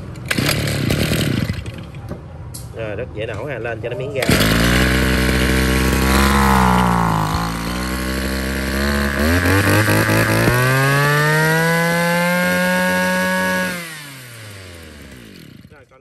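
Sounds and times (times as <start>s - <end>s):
brush cutter engine revving: 0.3s - 1.7s, 4.2s - 15.7s.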